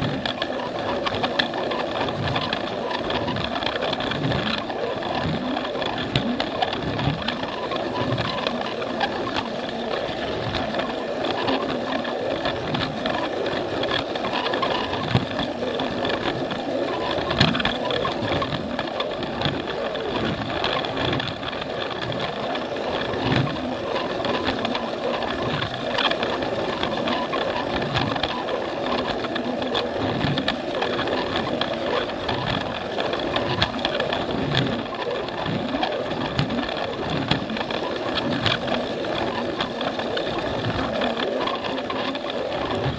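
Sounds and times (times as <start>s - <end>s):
wheels clicking on plastic track: 0.0s - 42.9s.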